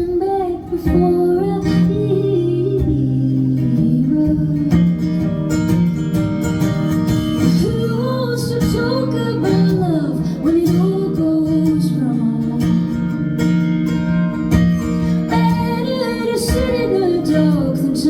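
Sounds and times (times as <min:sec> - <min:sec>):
woman singing: 0:00.0 - 0:05.5, 0:07.2 - 0:13.3, 0:15.0 - 0:18.0
guitar strumming chords: 0:00.0 - 0:18.0.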